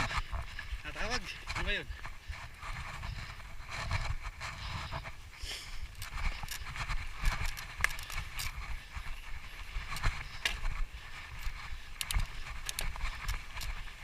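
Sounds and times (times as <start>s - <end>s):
bike clicks and rattles: 0.0s - 14.0s
bike tyres on dirt trail: 0.0s - 14.0s.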